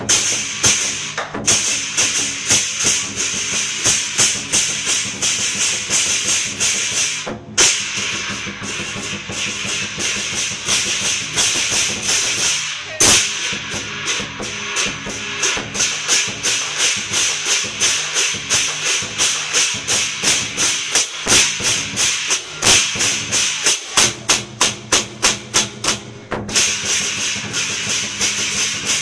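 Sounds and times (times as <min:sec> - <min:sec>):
cymbals clashing: 0:00.0 - 0:29.0
drum beating: 0:00.0 - 0:29.0.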